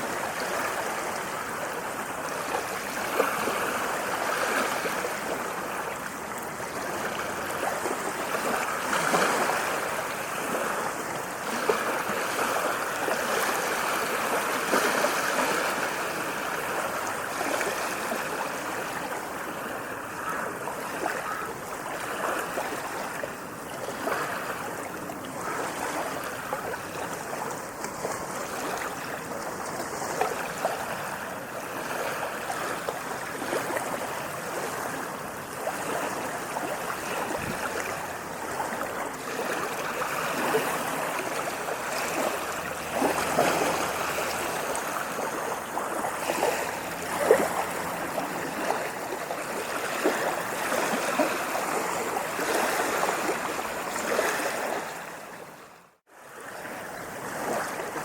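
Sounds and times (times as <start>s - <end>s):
ocean waves splashing: 0.0s - 58.0s.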